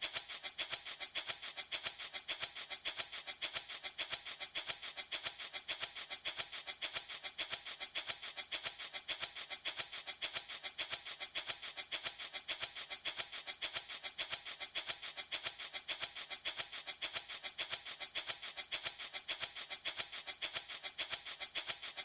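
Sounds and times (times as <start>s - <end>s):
wooden baby rattle shaken: 0.0s - 22.0s.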